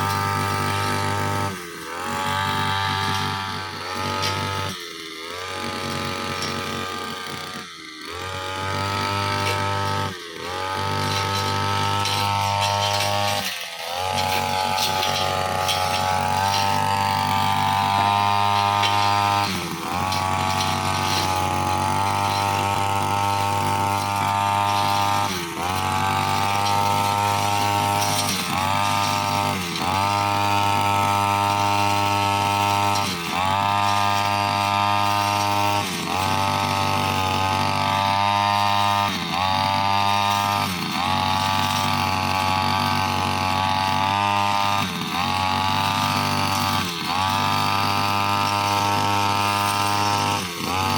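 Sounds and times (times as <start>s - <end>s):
blade cutting grass: 0.0s - 50.9s
brushcutter engine running: 0.0s - 50.9s.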